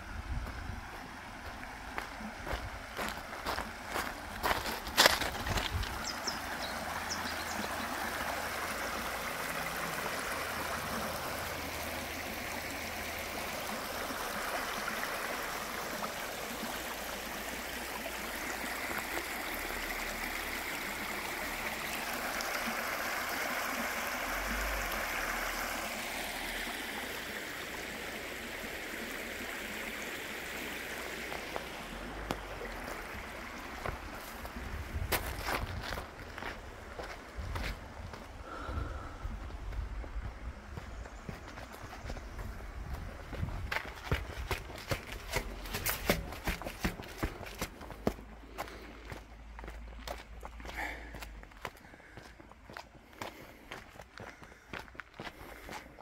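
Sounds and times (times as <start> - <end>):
water rushing over rocks: 0.8 - 38.2, 41.6 - 51.8.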